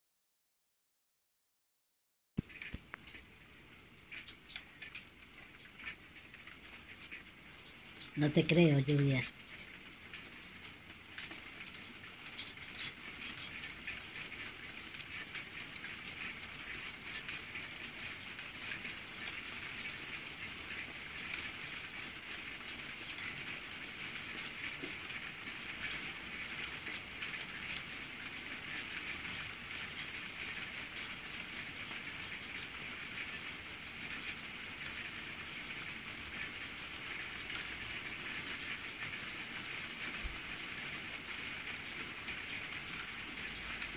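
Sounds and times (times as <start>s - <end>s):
rain on a tiled patio: 2.4s - 43.9s.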